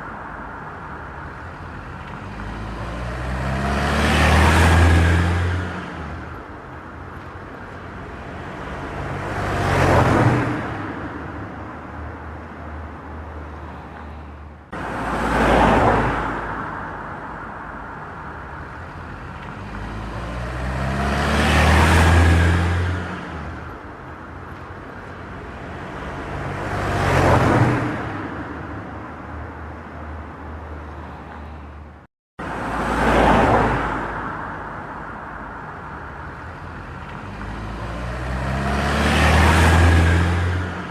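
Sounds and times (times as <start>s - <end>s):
vehicles passing by: 0.0s - 40.9s.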